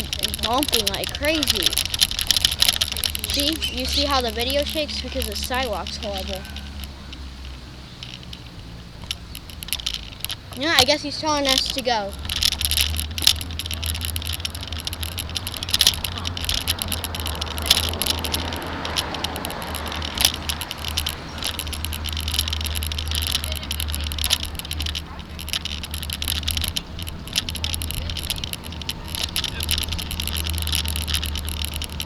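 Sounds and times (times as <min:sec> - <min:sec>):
bike camera rattling and clattering: 0:00.0 - 0:32.0
low tyre rumble: 0:00.0 - 0:32.0.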